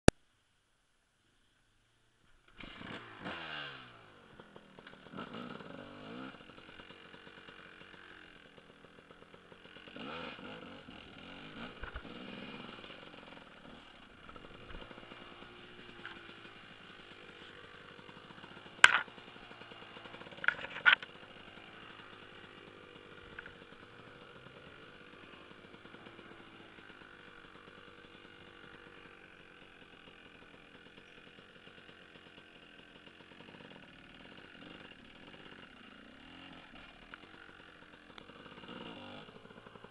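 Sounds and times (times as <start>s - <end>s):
dirt bike engine revving: 2.5s - 39.9s.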